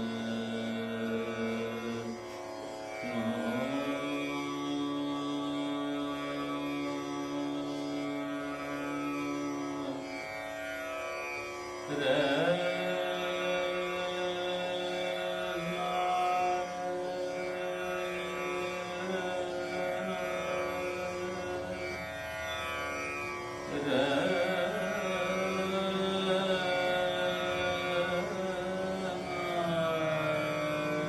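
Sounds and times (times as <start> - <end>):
tanpura drone: 0.0 - 31.0.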